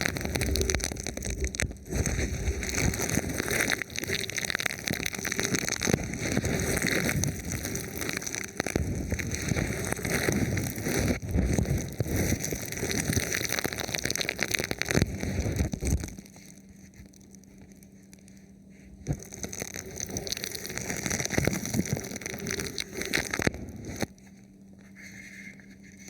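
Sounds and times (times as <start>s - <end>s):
plastic film rubbed on microphone: 0.0s - 17.7s, 18.7s - 26.0s.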